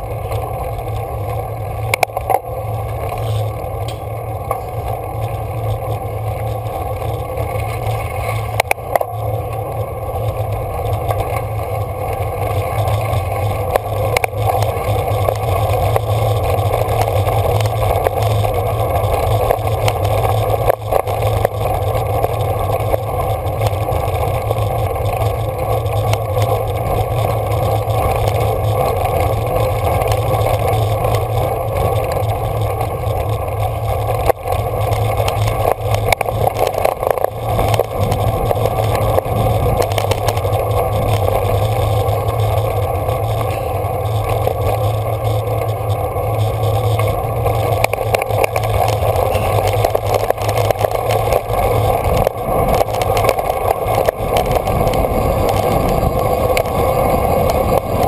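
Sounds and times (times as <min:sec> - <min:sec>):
bicycle rumbling over gravel: 0:00.0 - 0:58.0.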